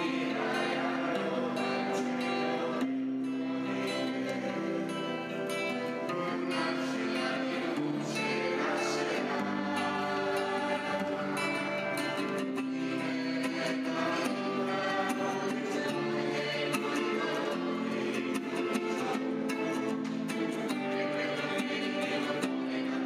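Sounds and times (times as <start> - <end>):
voices singing with accompaniment: 0.0 - 23.0.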